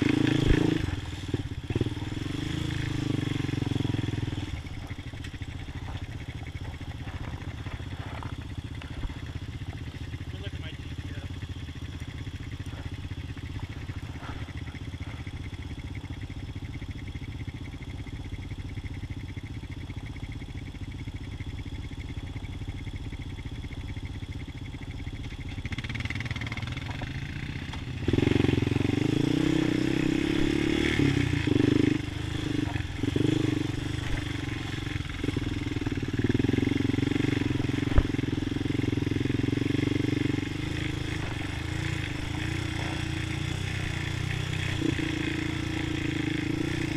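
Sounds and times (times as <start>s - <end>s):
quad engine idling and revving: 0.0s - 46.9s.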